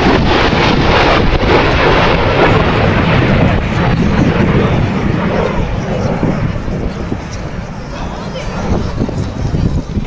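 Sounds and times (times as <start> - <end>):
fighter jet roar: 0.0 - 10.0.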